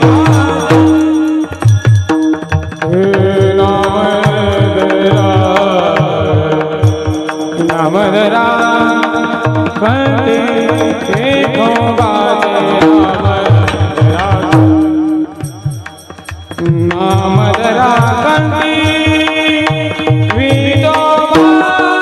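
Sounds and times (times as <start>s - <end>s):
hand drum playing: 0.0s - 22.0s
person singing devotional melody: 0.0s - 22.0s.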